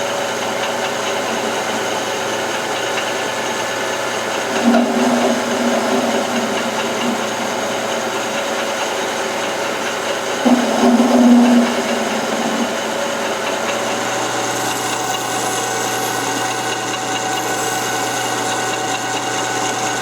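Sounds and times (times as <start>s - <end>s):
metal lathe hum: 0.3s - 20.0s.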